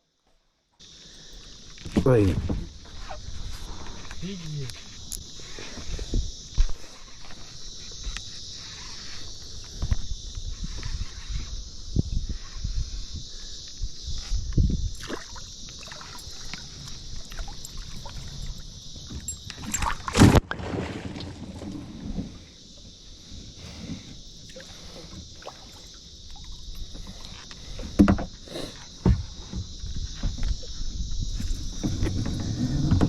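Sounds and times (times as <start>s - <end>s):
high-pitched insect drone: 0.8s - 20.3s, 22.4s - 33.0s.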